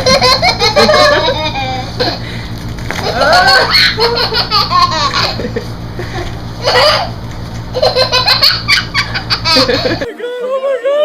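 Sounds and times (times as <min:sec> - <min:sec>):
people laughing: 0:00.0 - 0:02.2, 0:03.0 - 0:07.0, 0:07.9 - 0:11.0.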